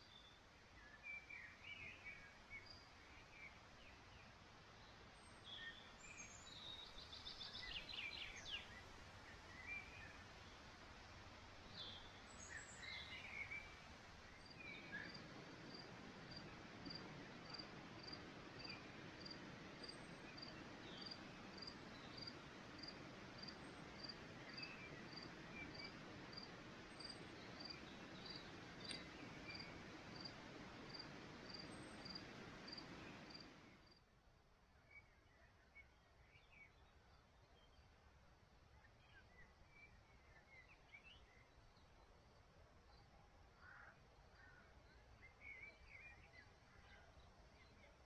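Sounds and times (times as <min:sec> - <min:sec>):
faint outdoor hiss: 0:00.0 - 0:48.0.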